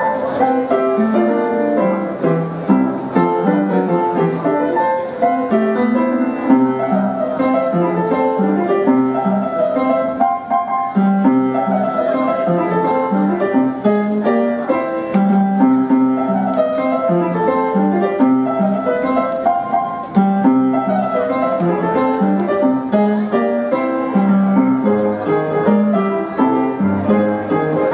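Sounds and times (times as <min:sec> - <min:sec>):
piano playing: 0:00.0 - 0:27.9.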